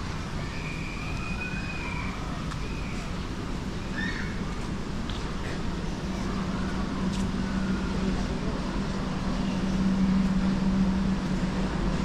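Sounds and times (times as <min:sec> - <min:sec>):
light outdoor noise: 0:00.0 - 0:12.0
low mechanical hum: 0:00.0 - 0:12.0.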